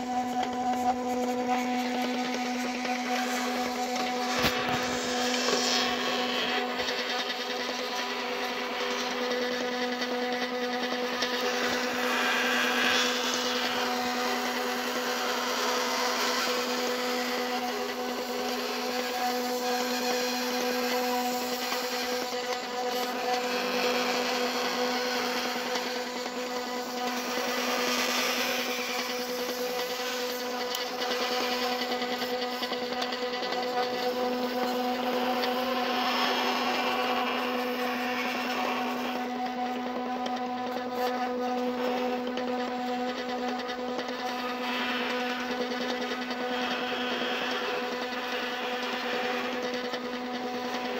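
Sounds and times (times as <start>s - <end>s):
small electric motor humming: 0.0s - 50.9s.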